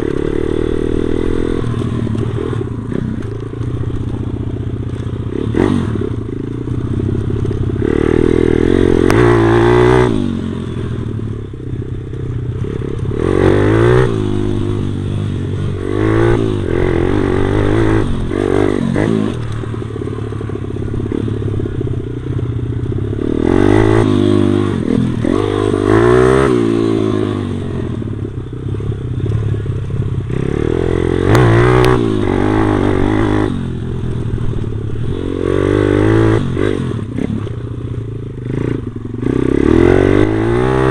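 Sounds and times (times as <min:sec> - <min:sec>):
pit bike engine revving: 0:04.9 - 0:11.1, 0:12.6 - 0:40.9.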